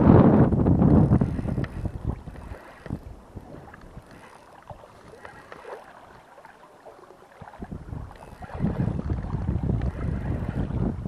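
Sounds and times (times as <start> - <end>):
wind on microphone: 0.0 - 6.2, 7.4 - 11.0
water splashing and lapping: 0.8 - 11.0.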